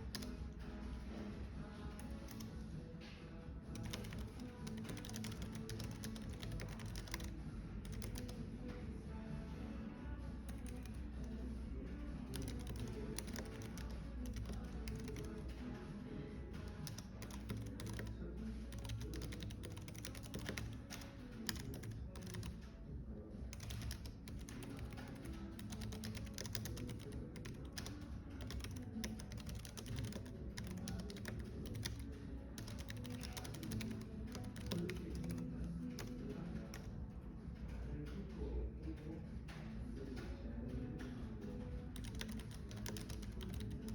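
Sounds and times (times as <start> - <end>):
typing on computer keyboard: 0.0 - 8.8, 9.5 - 43.9
soft background music: 0.0 - 43.9.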